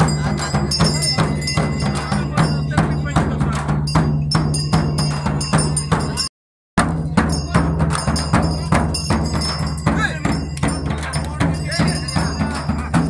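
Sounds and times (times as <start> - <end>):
drums beating quick rhythm: 0.0 - 13.0.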